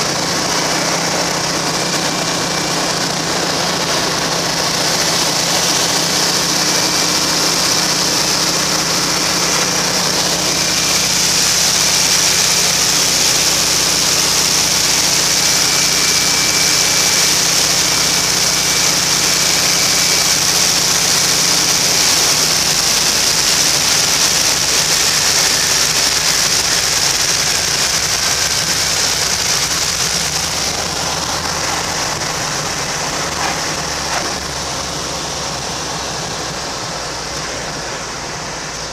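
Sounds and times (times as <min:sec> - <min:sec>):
radial engine droning: 0:00.0 - 0:38.9
rushing airflow: 0:00.0 - 0:38.9.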